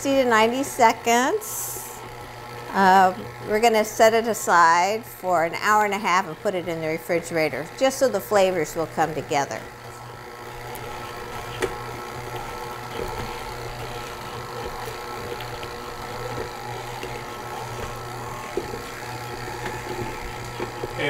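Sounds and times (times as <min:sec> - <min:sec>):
stand mixer running: 0:00.0 - 0:21.0.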